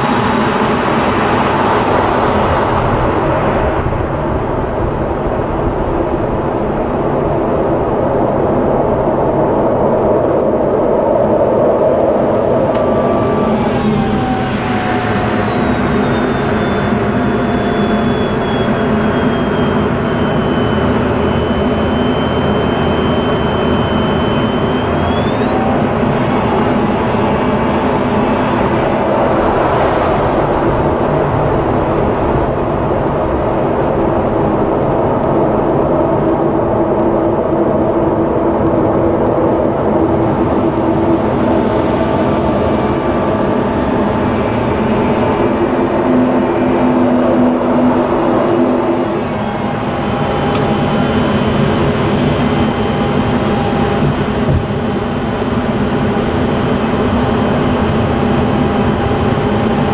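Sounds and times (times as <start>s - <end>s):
jet engine rumble and whine: 0.0s - 59.9s.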